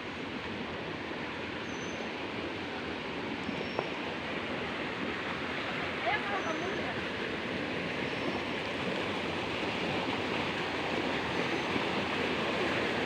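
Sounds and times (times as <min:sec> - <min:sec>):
flowing water rushing: 0:00.1 - 0:13.0.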